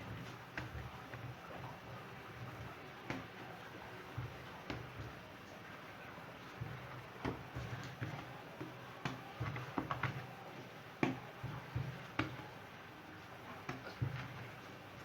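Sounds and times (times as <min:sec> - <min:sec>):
hands tapping dough on a surface: 0:00.1 - 0:05.3, 0:06.4 - 0:12.6, 0:13.6 - 0:14.6.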